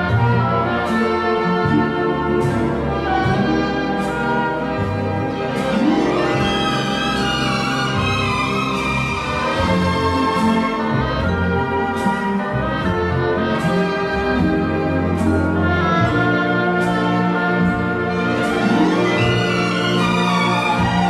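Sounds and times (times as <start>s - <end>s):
orchestral strings and brass chords: 0.0s - 21.0s.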